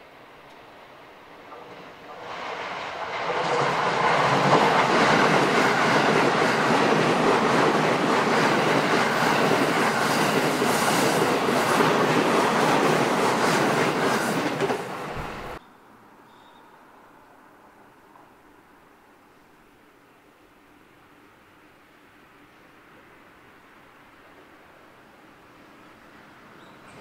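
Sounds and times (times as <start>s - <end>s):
train passing close by: 0.0s - 15.6s, 19.9s - 27.0s.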